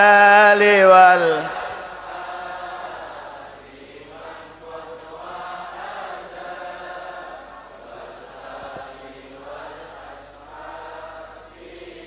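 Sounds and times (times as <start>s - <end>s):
congregation chanting in unison: 0.0s - 12.0s.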